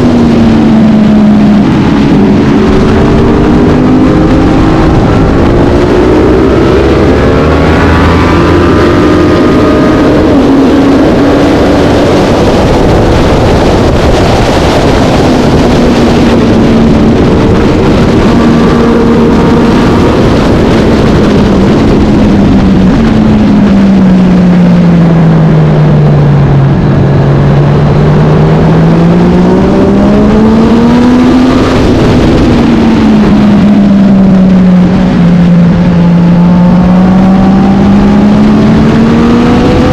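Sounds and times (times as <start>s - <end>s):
dense rushing noise: 0.0s - 39.9s
racing motorcycle engine: 0.0s - 39.9s.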